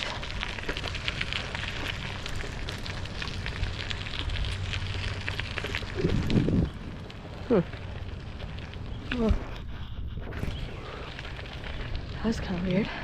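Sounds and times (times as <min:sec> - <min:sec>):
bicycle tyres rolling on gravel: 0:00.0 - 0:13.0.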